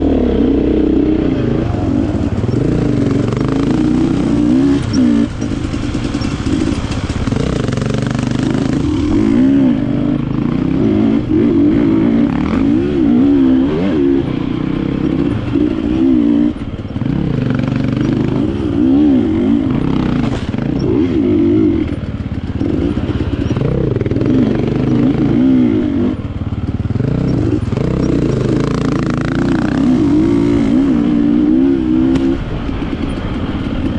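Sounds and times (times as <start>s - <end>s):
dirt bike engine revving: 0.0s - 33.3s.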